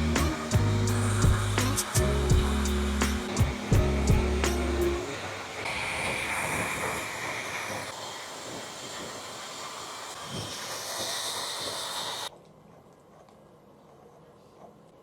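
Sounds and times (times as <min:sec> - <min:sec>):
hair dryer blowing: 0:00.0 - 0:12.3.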